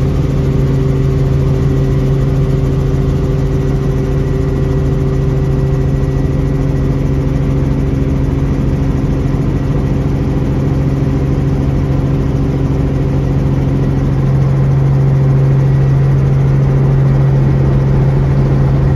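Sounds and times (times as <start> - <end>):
helicopter engine and rotor drone: 0.0 - 18.9.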